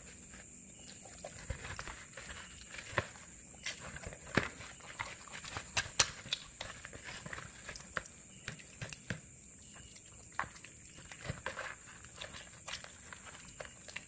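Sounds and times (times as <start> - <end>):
wet slapping of fish: 0.9 - 14.0.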